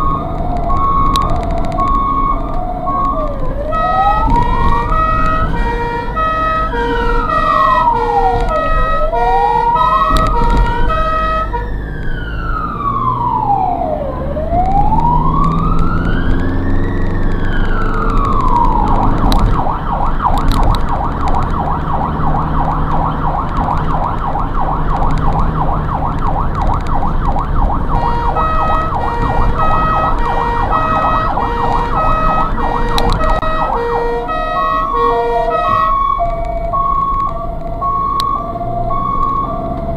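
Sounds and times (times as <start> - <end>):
ambulance siren: 0.0 - 39.9
vehicle engine and road noise: 0.0 - 39.9.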